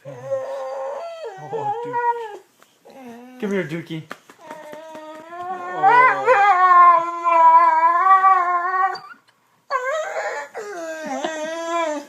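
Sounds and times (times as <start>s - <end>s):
dog howling: 0.0s - 2.4s, 4.5s - 12.0s
dog whining cry: 0.0s - 3.4s, 4.4s - 12.0s.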